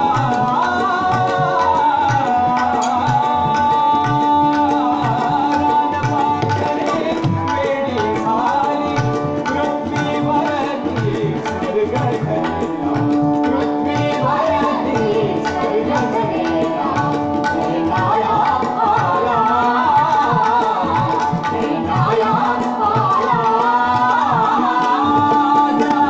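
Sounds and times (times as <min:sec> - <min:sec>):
tabla rhythm: 0:00.0 - 0:26.0.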